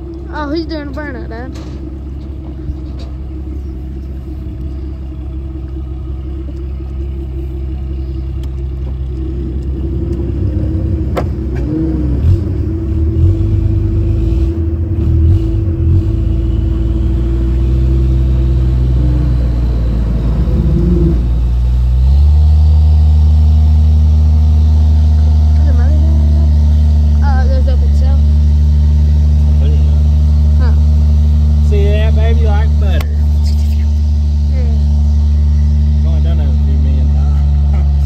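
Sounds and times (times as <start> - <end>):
engine rumbling: 0.0 - 38.0.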